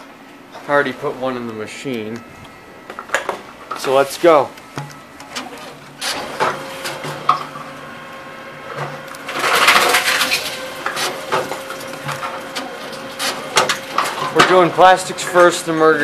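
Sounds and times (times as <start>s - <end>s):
machine motor hum: 0.6s - 16.0s.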